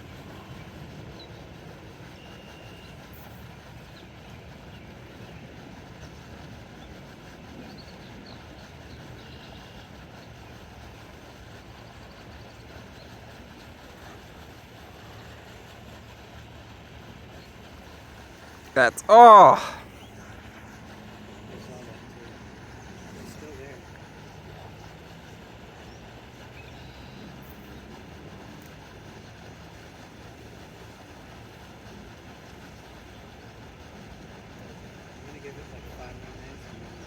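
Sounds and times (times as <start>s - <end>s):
low rumble with hiss: 0.0s - 37.0s.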